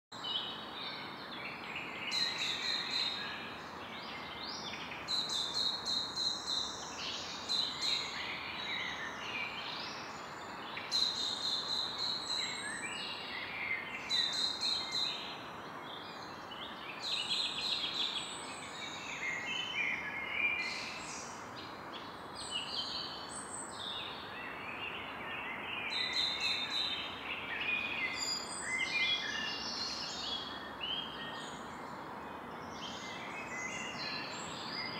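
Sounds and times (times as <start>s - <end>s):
birds singing and calling: 0.2s - 34.9s
steady background hiss: 0.2s - 34.9s.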